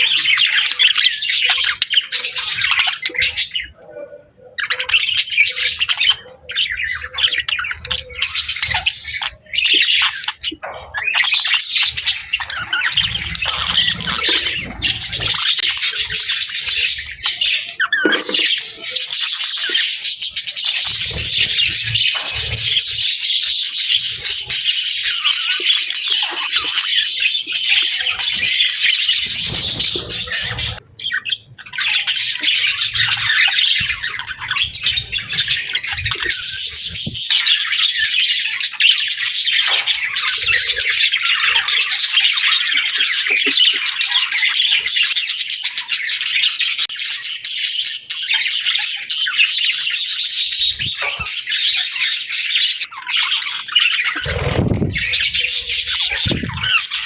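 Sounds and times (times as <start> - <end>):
bird squawks: 0.0 - 57.0
small birds chirping: 0.0 - 57.0.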